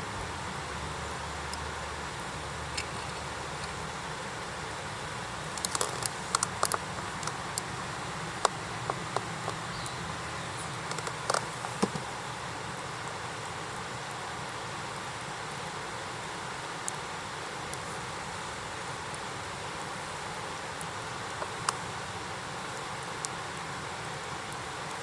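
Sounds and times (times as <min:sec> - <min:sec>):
campfire crackling: 0:00.0 - 0:25.0
low fire rumble: 0:00.0 - 0:25.0.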